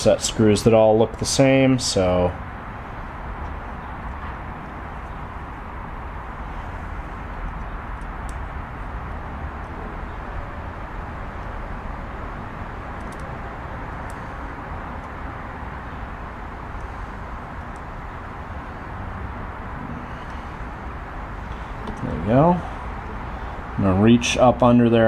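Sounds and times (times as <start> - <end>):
background rumble and hiss: 0.0 - 25.0.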